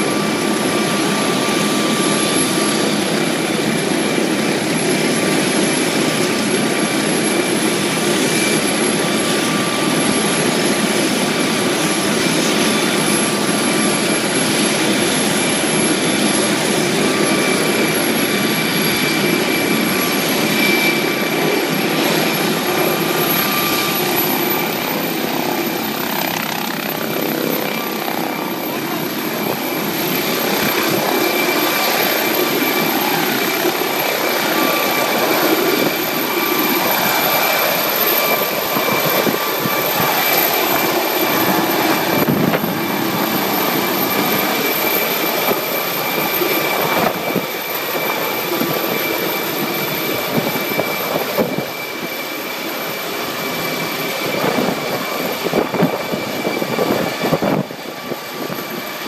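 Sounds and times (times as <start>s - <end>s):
helicopter rotor and engine noise: 0.0s - 59.0s
high turbine whine: 0.0s - 59.0s.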